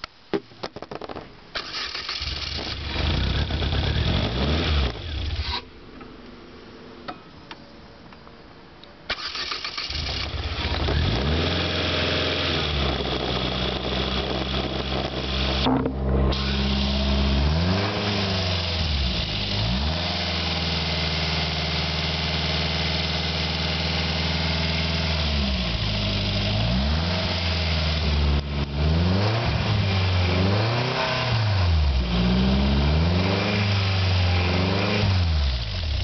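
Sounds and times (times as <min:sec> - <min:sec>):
car engine revving: 0:01.6 - 0:05.6, 0:09.1 - 0:36.0.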